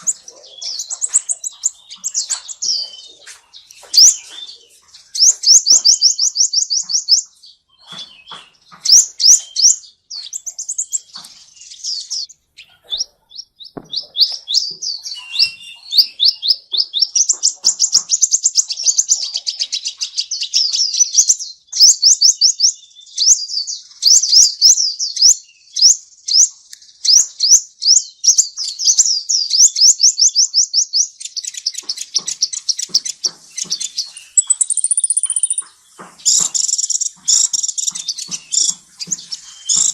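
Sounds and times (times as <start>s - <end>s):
songbird trilling: 0.0s - 39.9s.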